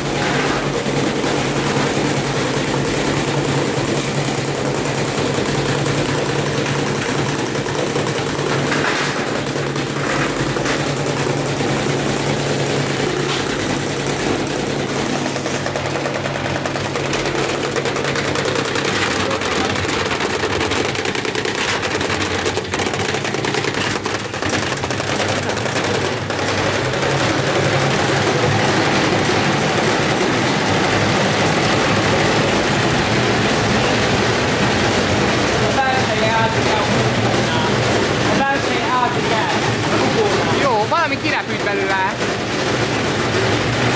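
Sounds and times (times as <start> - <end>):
washing machine drum rattling: 0.0 - 43.9
washing machine motor hum: 0.0 - 43.9.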